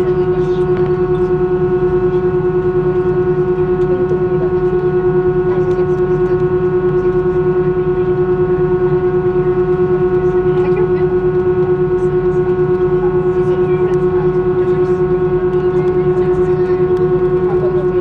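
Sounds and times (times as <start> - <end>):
jet engine whine in cabin: 0.0 - 18.0.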